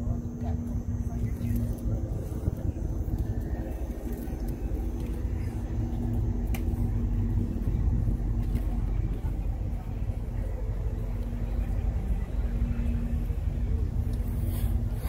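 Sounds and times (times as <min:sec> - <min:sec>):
engine rumble: 0:00.0 - 0:15.0
faint crowd chatter: 0:00.0 - 0:15.0.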